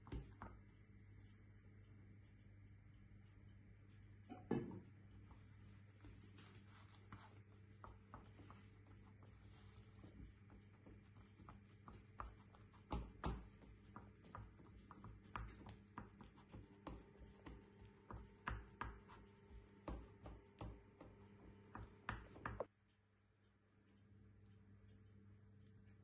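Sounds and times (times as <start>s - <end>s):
fingertips patting dough in metal pan: 0.0s - 2.8s, 4.0s - 22.7s
low steady hum: 0.0s - 26.0s.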